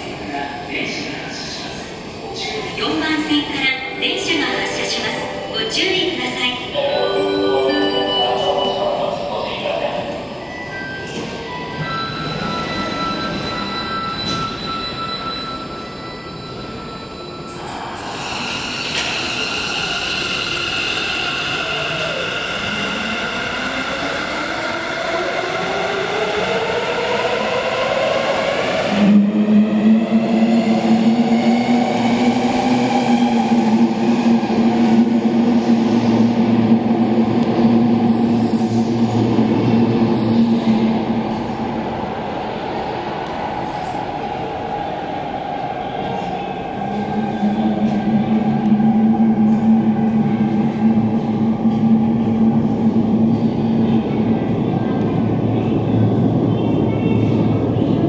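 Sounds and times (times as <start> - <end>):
train rumbling in tunnel: 0.0 - 58.0.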